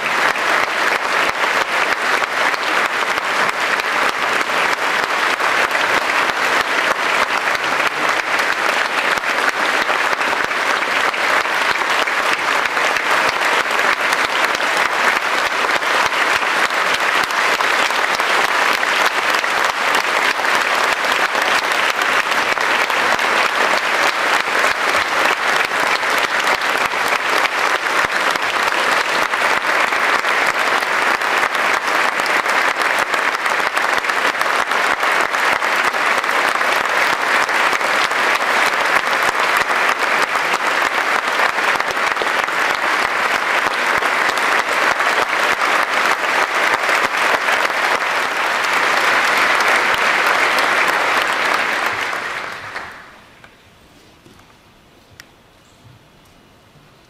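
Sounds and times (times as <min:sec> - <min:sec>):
audience applauding: 0:00.0 - 0:53.5.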